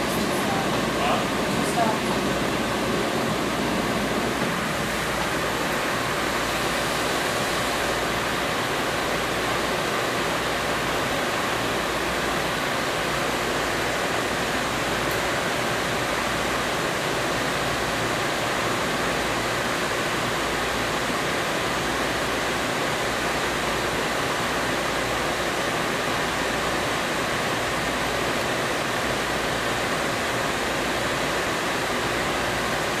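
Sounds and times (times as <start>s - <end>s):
steady rushing noise in rail car: 0.0s - 33.0s.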